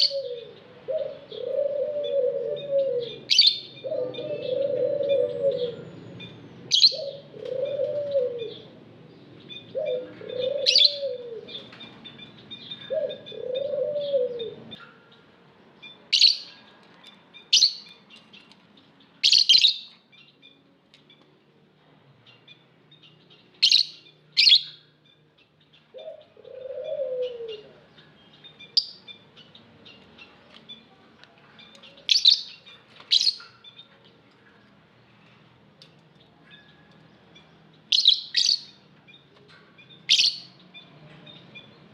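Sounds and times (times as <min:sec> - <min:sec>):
lovebirds shrill calls: 0:00.0 - 0:14.8, 0:15.8 - 0:16.6, 0:19.2 - 0:21.2, 0:22.3 - 0:30.9, 0:31.6 - 0:33.9, 0:36.5 - 0:41.8.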